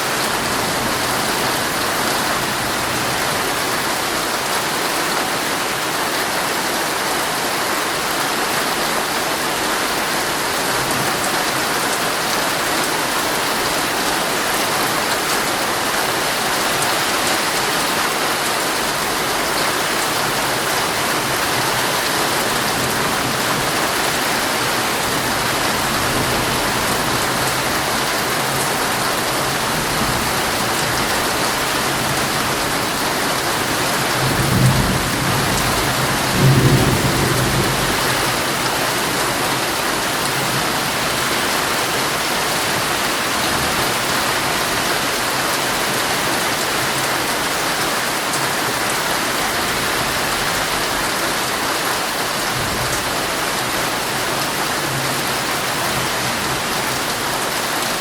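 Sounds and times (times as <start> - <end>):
heavy rain drumming on tent fabric: 0.0 - 58.0.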